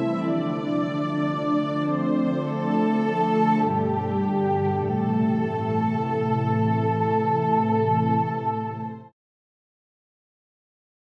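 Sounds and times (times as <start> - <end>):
soft slow background music: 0.0 - 9.1.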